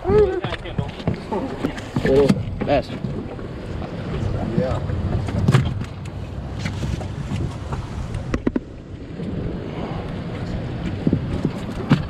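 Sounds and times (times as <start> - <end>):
water around a boat: 0.0 - 12.0
wind on microphone: 0.0 - 12.0.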